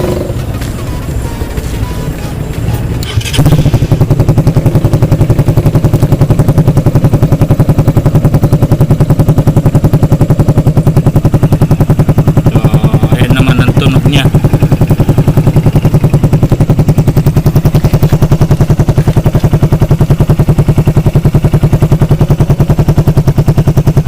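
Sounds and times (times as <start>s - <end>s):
motorcycle engine exhaust beat: 0.0s - 24.0s.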